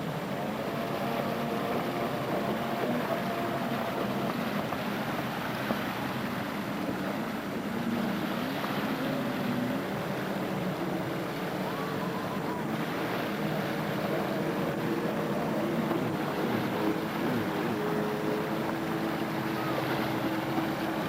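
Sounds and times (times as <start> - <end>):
jet ski engine: 0.0 - 21.0
rush of water and wind: 0.0 - 21.0.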